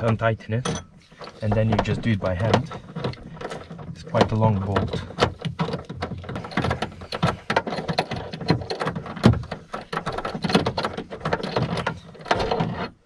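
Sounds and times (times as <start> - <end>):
metallic clicking and scraping: 0.0 - 13.0.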